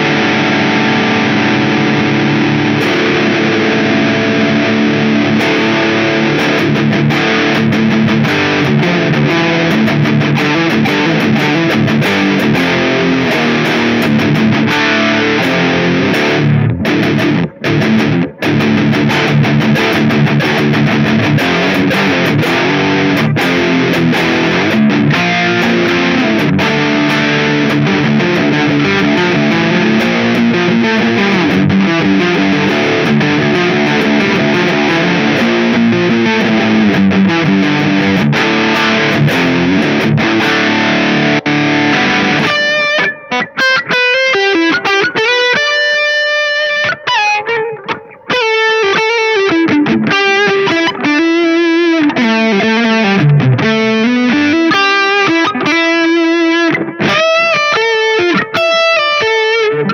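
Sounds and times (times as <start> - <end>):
electric guitar notes and chords: 0.0 - 59.9.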